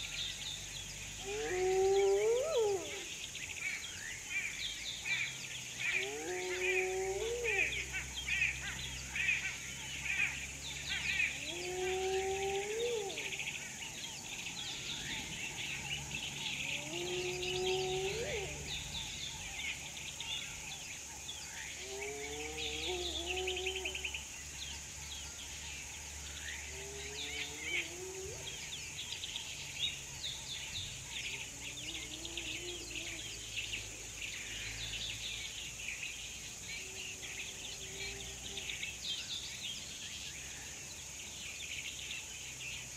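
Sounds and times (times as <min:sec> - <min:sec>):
lower repeated bird call: 0:00.0 - 0:35.6
small birds chirping: 0:00.0 - 0:42.9
steady high hiss: 0:00.0 - 0:42.9.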